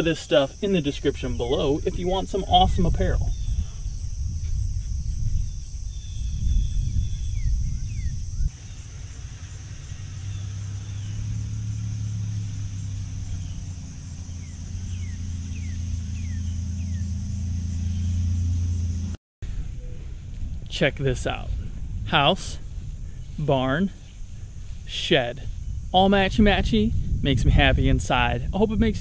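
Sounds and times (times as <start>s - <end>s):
crickets chirping: 0.0s - 29.0s
steady low hum: 0.0s - 29.0s
wind on microphone: 1.0s - 29.0s.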